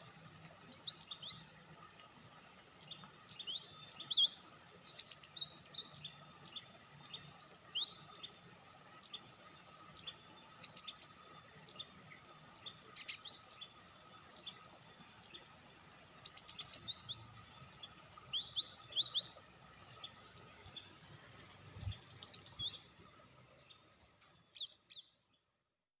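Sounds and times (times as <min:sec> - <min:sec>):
bird chirping: 0:00.0 - 0:01.7, 0:02.8 - 0:08.4, 0:09.9 - 0:15.5, 0:16.2 - 0:25.4.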